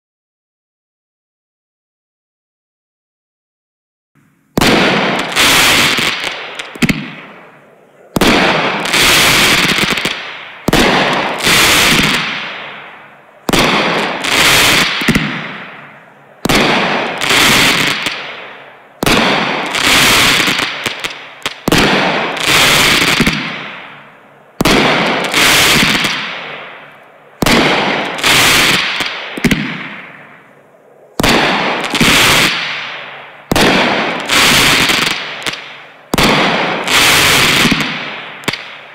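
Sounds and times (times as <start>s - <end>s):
firework bangs with fizzing crackle: 4.5s - 7.4s, 8.2s - 30.3s, 31.2s - 38.9s.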